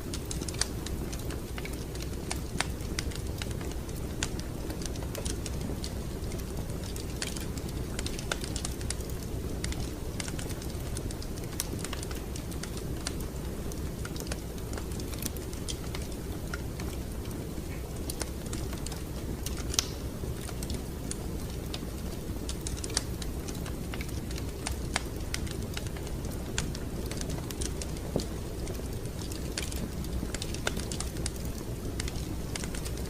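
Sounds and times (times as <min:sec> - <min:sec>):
rumble of flames: 0:00.0 - 0:33.0
wood fire crackling: 0:00.0 - 0:33.0.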